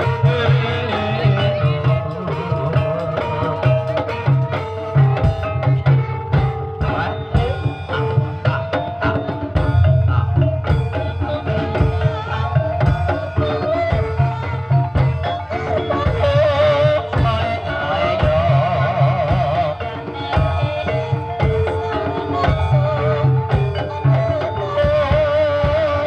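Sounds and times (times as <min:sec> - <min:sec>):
hand drums beating: 0:00.0 - 0:26.0.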